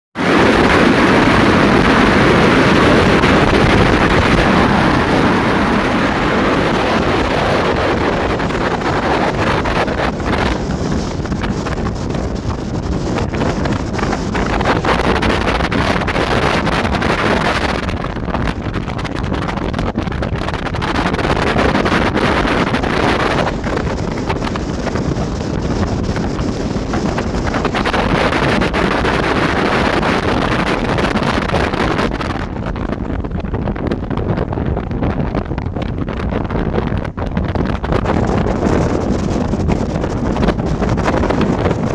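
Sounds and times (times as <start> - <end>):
boat engine: 0.2 - 41.9
wind rushing over microphone: 0.2 - 41.9.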